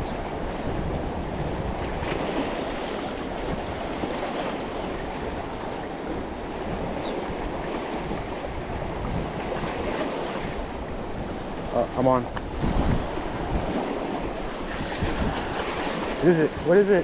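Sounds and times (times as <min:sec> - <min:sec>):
wind on microphone: 0:00.0 - 0:17.0
waves splashing against rocks: 0:00.1 - 0:17.0.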